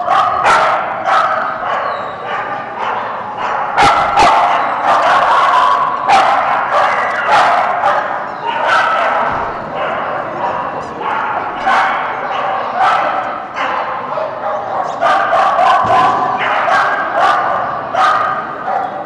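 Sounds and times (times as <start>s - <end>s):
dog barking: 0.0s - 19.0s.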